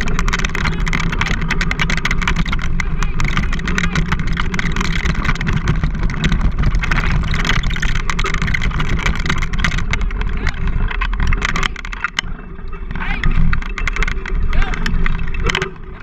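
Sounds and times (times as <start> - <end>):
bike rattling and clicking: 0.0 - 16.0
tyres rumbling on dirt: 0.0 - 16.0.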